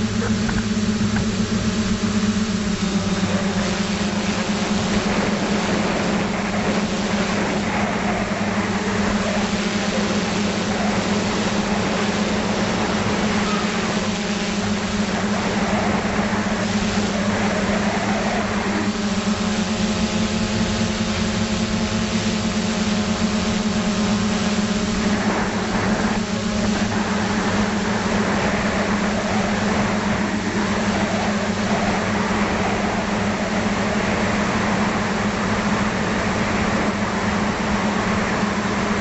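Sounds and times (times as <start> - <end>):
drone motors humming: 0.0 - 39.0
higher motor tones: 0.0 - 39.0.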